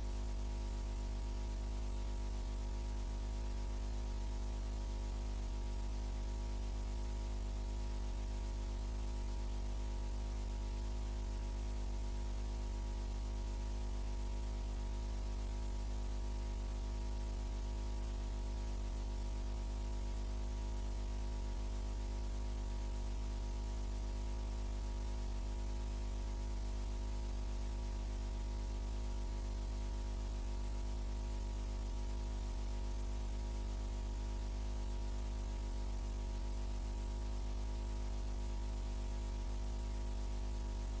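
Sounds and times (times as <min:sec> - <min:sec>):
mains hum: 0:00.0 - 0:41.0.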